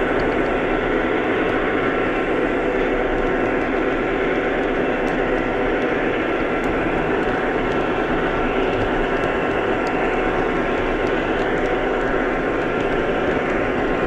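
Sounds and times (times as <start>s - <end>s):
model train rumbling: 0.0s - 14.0s.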